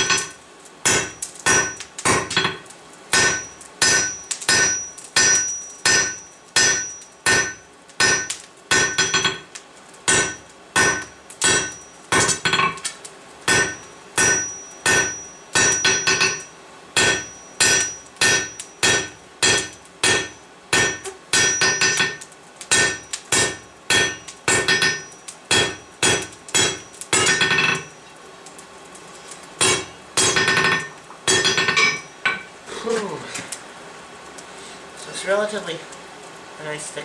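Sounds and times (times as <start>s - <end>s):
hammer striking hot steel on anvil: 0.0s - 28.0s, 29.6s - 32.5s.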